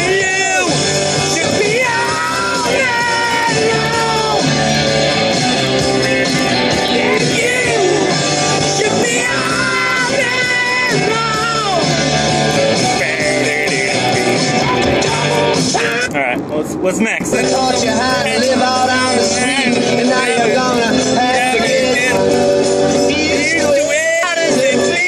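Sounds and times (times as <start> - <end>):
loud singing: 0.0 - 16.1, 17.2 - 25.0
song on car radio: 0.0 - 16.4, 17.0 - 25.0.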